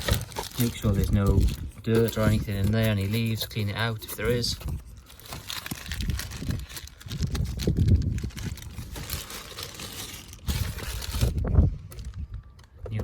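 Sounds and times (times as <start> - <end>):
plastic air filter rustling and knocking: 0.0 - 12.2.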